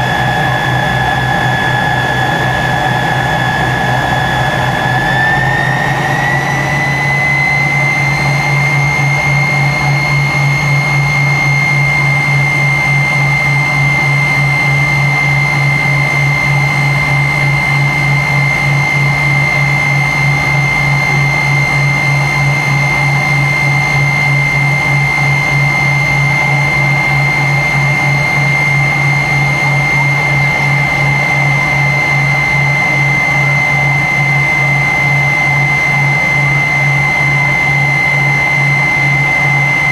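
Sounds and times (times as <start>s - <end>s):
jet engine whine in cabin: 0.0s - 39.9s.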